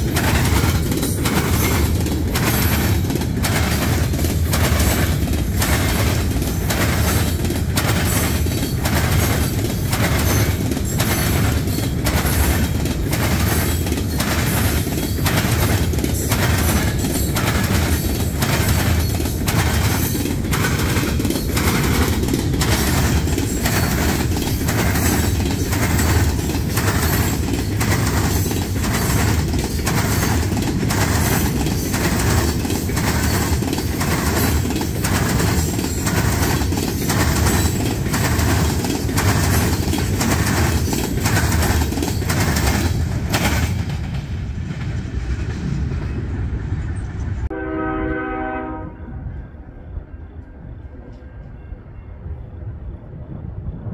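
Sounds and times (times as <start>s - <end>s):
wheels clicking over rail joints: 0.0s - 45.6s
freight train rumbling past: 0.0s - 53.9s.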